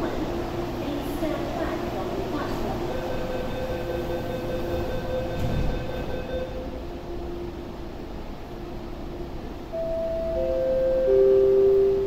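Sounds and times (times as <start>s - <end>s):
train humming: 0.0s - 12.0s.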